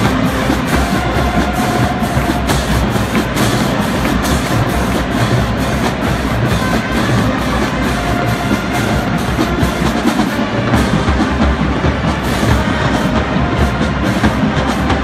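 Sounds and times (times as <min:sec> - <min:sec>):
drumline with bass drums: 0:00.0 - 0:15.0
marching band playing: 0:00.0 - 0:15.0.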